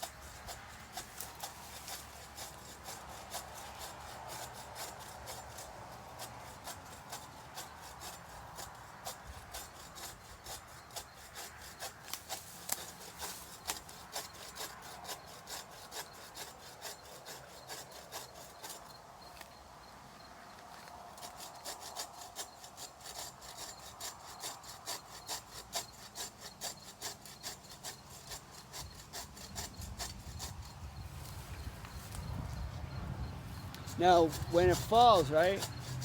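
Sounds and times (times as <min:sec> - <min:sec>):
hand saw cutting wood: 0:00.0 - 0:19.3, 0:21.2 - 0:32.6, 0:33.6 - 0:36.0.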